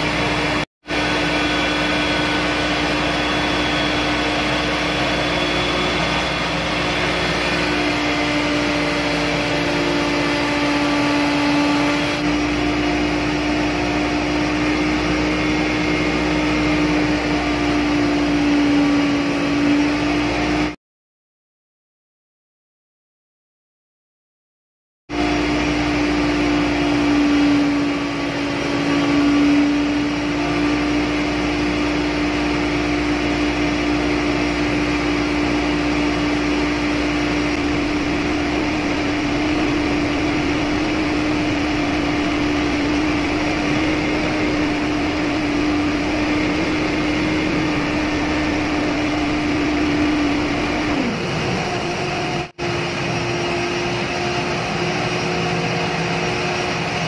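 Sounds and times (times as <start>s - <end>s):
engine room machinery drone: 0.0s - 20.8s, 25.1s - 57.0s.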